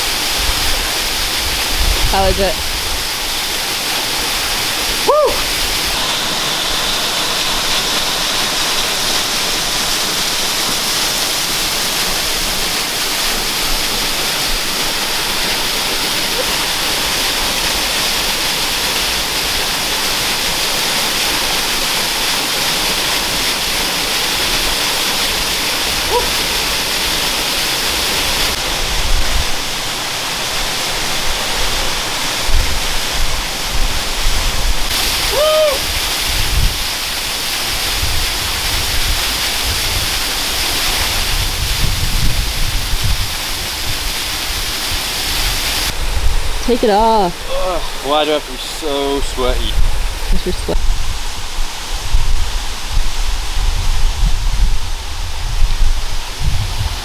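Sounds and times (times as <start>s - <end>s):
waterfall pouring: 0.0s - 54.2s.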